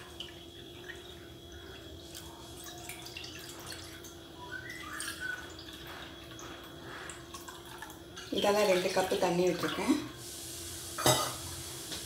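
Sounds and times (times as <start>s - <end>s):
water dripping: 0.0s - 10.0s.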